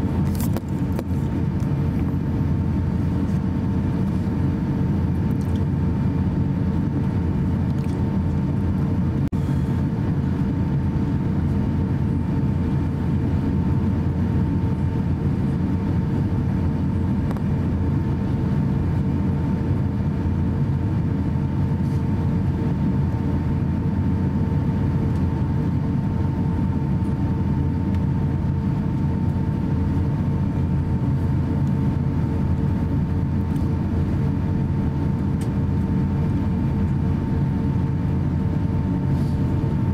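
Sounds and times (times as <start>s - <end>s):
aircraft cabin rumble: 0.0s - 39.9s
constant hum: 0.0s - 39.9s.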